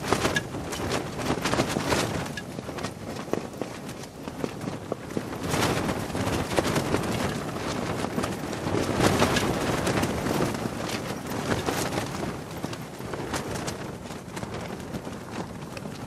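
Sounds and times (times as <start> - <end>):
cloth flapping: 0.0 - 16.0
gusty wind: 0.0 - 16.0.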